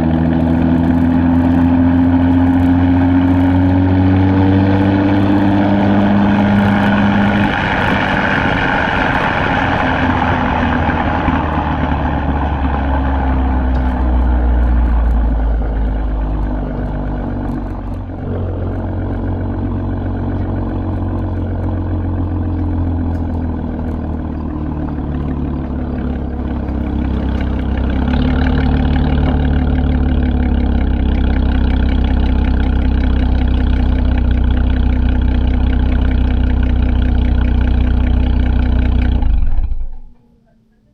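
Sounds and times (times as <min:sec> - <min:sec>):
car engine with deep exhaust: 0:00.0 - 0:40.9.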